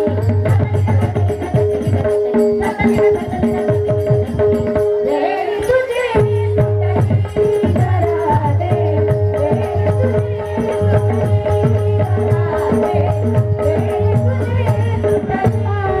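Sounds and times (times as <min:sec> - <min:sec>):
woman singing: 0:00.0 - 0:04.2, 0:04.9 - 0:16.0
hand drum beat: 0:00.0 - 0:16.0
harmonium holding notes: 0:00.0 - 0:16.0.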